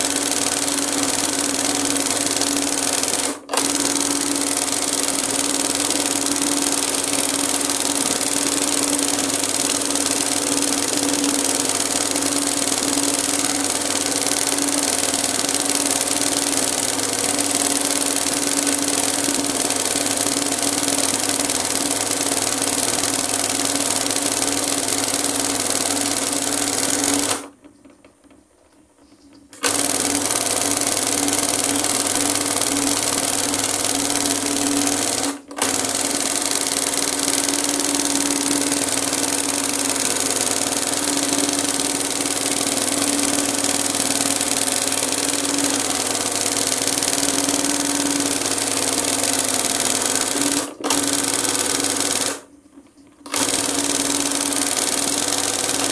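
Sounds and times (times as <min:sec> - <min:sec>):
embroidery machine running: 0:00.0 - 0:27.5, 0:29.6 - 0:52.5, 0:53.3 - 0:55.9.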